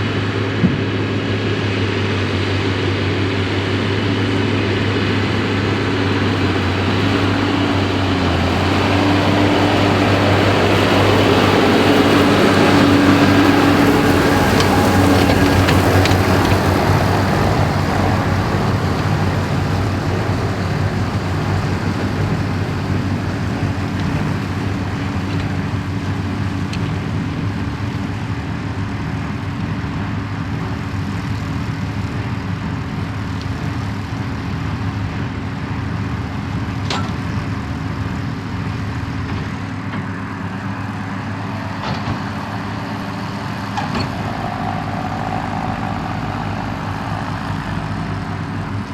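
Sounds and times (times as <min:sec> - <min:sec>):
tractor running under load: 0:00.0 - 0:48.9.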